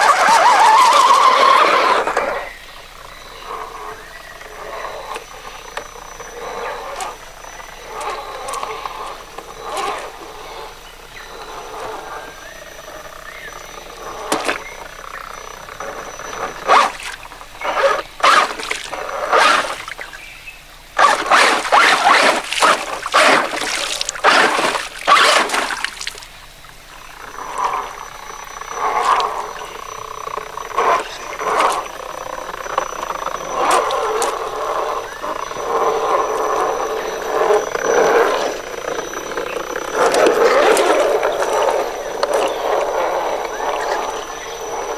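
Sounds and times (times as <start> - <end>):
electric motor whining: 0.0 - 20.1, 21.0 - 25.7, 27.2 - 44.9
tires splashing through water: 0.0 - 44.9.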